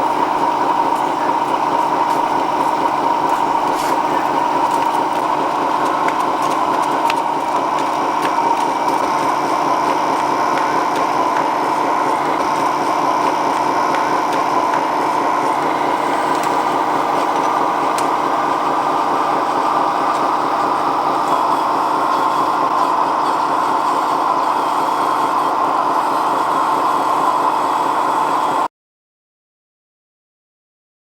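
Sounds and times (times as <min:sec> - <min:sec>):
toy car electric motor and gears: 0:00.0 - 0:28.6.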